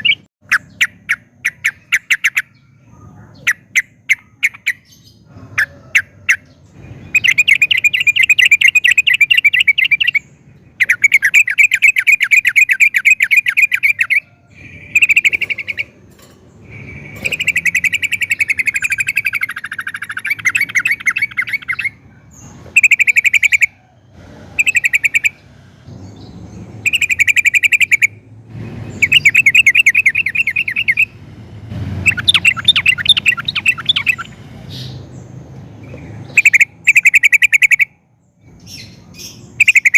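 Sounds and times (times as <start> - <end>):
bird singing chattering notes: 0.0 - 5.3, 5.9 - 23.8, 24.6 - 28.2, 28.8 - 31.2, 32.0 - 39.9.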